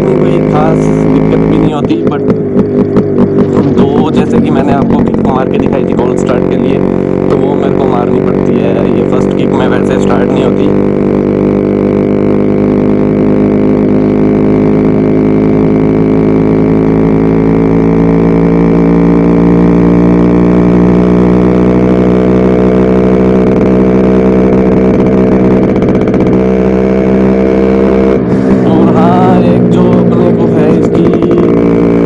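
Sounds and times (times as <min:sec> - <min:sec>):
two-stroke motorcycle engine running: 0:00.0 - 0:32.0.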